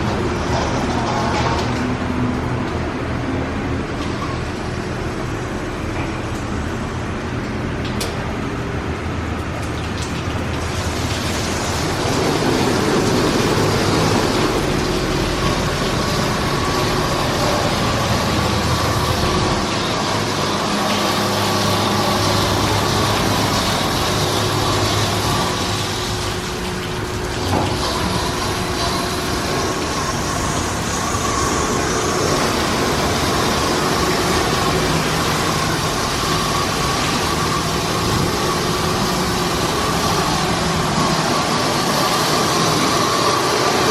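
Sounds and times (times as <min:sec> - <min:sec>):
car wash machinery running: 0:00.0 - 0:43.9.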